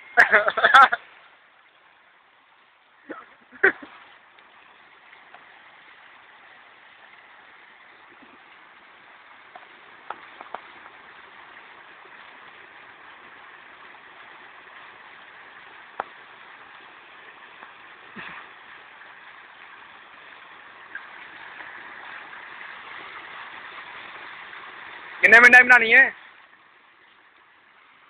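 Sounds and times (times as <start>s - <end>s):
water gushing into pool: 0.0s - 28.0s.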